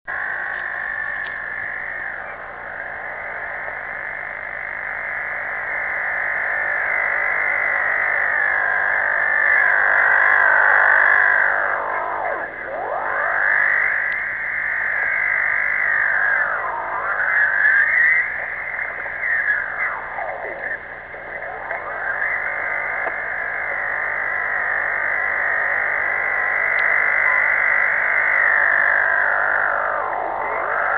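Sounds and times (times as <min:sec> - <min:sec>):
radio hiss: 0:00.1 - 0:30.9
warbling radio tones: 0:00.1 - 0:30.9.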